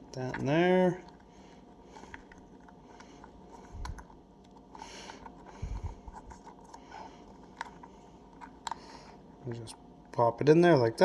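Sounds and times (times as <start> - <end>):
light clicks and scrapes: 0.1 - 9.8.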